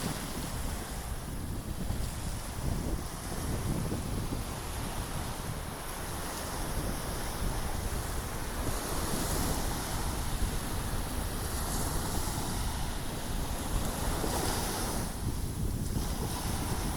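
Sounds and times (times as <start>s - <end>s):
sea surf washing: 0.0s - 16.9s
wind buffeting microphone: 0.0s - 16.9s.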